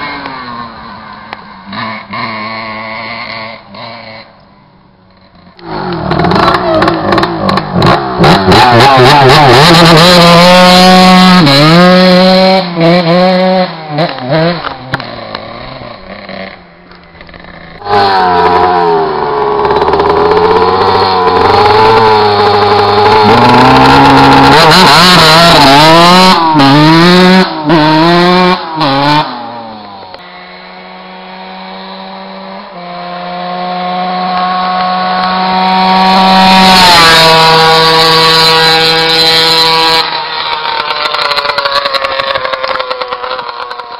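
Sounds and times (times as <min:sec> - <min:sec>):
motorbike engine revving: 0:00.0 - 0:04.4, 0:05.1 - 0:43.9
motorbike passing by: 0:05.4 - 0:43.9.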